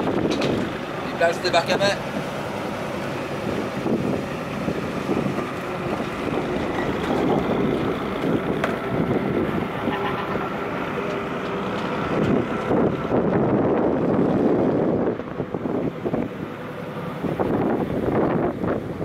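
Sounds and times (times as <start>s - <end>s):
wind on microphone: 0.0s - 19.0s
tractor engine running: 2.2s - 19.0s.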